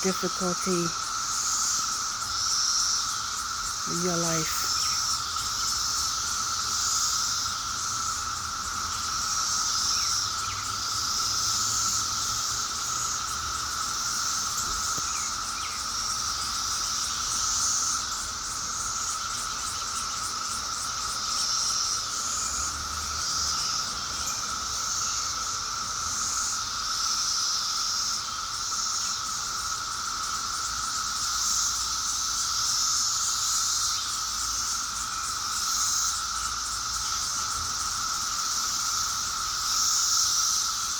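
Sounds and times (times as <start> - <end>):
insect trilling: 0.0 - 40.9
low insect drone: 0.0 - 40.9.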